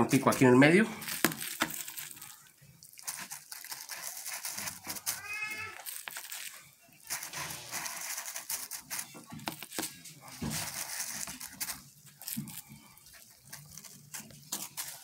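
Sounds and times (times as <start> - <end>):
plastic bag crinkling: 0.0 - 15.0
small crackles: 0.1 - 15.0.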